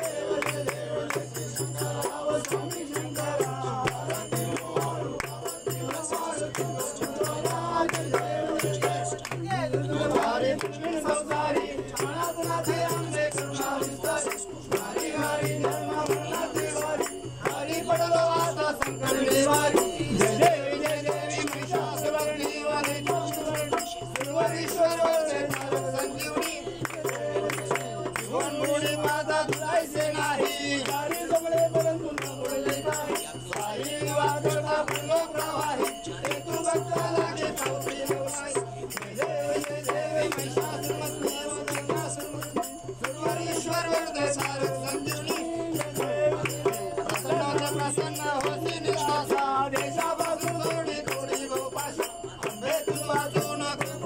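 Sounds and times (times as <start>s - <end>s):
group singing devotional song: 0.0s - 54.0s.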